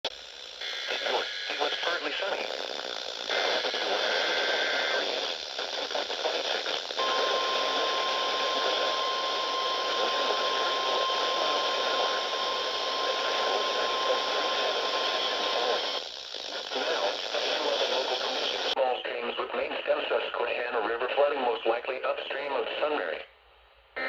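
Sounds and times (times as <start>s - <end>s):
radio static: 0.3s - 23.3s.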